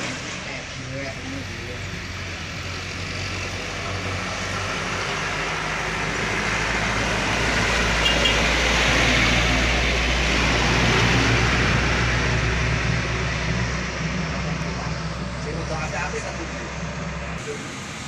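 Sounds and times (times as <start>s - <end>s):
heavy truck engine climbing: 0.0s - 18.0s
road noise: 0.0s - 18.0s.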